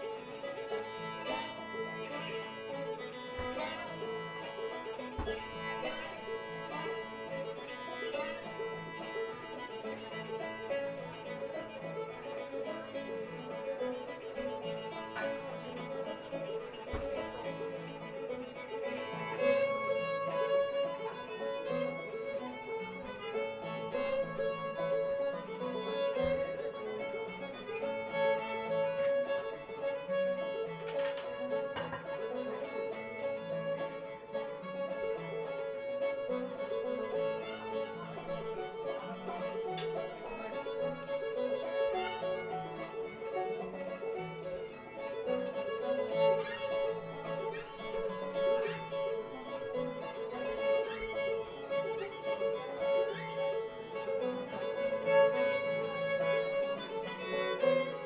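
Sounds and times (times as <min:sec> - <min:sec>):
fiddle: 0:00.0 - 0:58.0
string band playing: 0:00.0 - 0:58.0.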